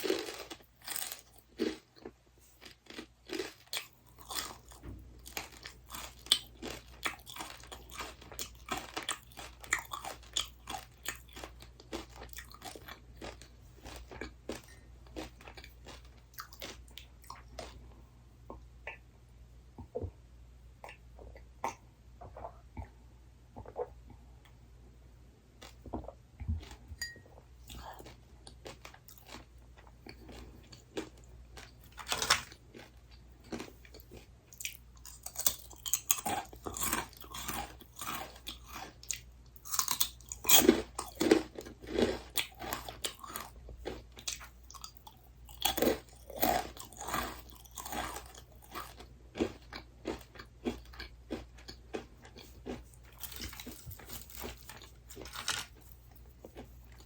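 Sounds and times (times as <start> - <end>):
crunchy snack chewing: 0.0 - 17.8, 25.6 - 26.8, 27.7 - 57.0.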